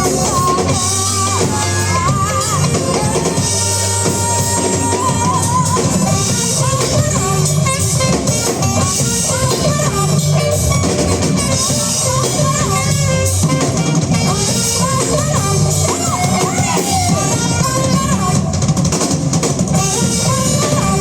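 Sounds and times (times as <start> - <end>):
band playing rock music: 0.0 - 21.0.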